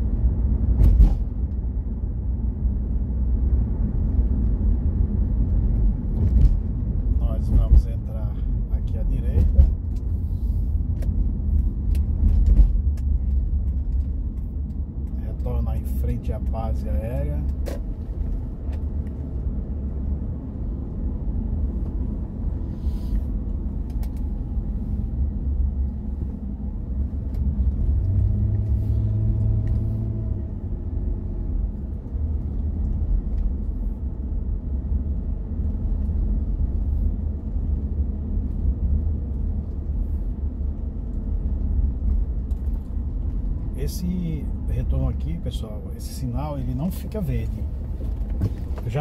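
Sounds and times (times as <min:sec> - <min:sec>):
road and engine rumble inside car: 0:00.0 - 0:49.0.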